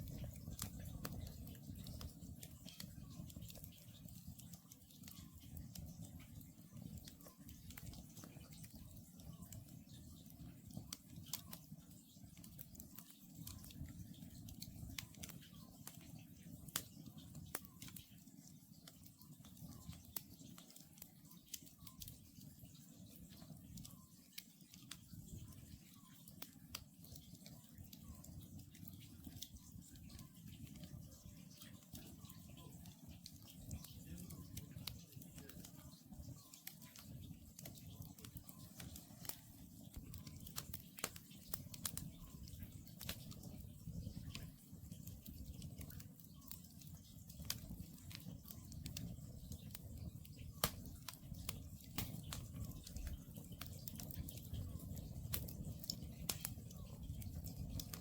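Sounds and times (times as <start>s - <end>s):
campfire crackling and popping: 0.0s - 58.0s
low rumble of burning logs: 0.0s - 58.0s.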